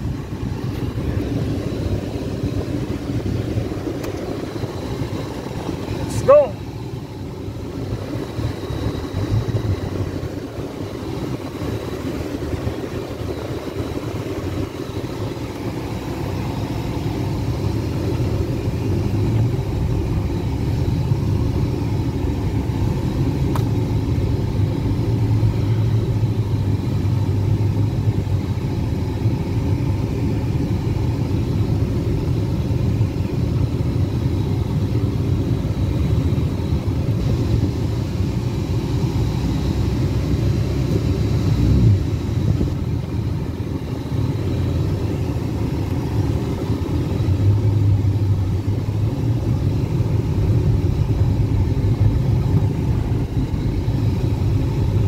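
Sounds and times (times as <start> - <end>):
car engine at low revs: 0.0 - 55.0.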